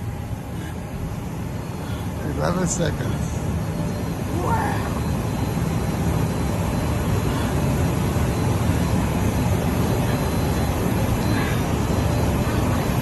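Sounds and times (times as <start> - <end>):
airplane engine and airflow rush: 0.0 - 13.0
faint high whine: 0.0 - 13.0.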